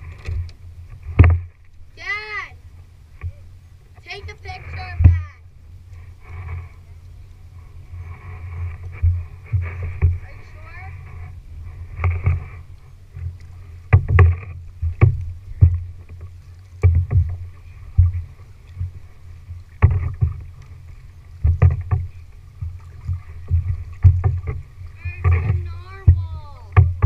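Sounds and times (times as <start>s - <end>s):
paddle splashes and knocks: 0.0s - 6.8s, 7.7s - 27.0s
low steady rumble: 0.0s - 27.0s.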